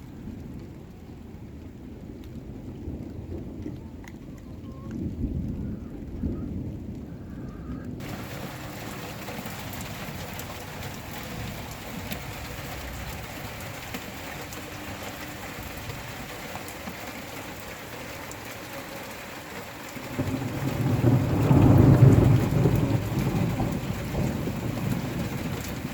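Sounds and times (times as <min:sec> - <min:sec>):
low thunder roll: 0:00.0 - 0:25.9
steady rain falling: 0:00.0 - 0:25.9.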